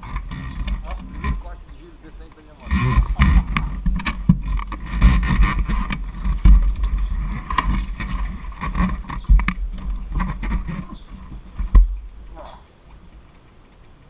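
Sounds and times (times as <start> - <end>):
scattered knocks: 0.0 - 12.6
wind buffeting microphone: 0.0 - 14.0.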